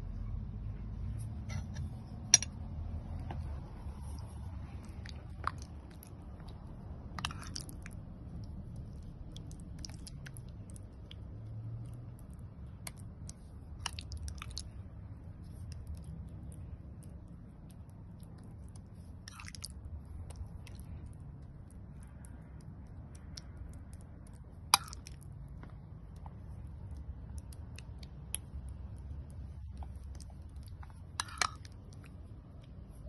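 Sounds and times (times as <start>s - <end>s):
steady low hum: 0.0s - 33.0s
spoon spreading jam on dough: 1.0s - 33.0s.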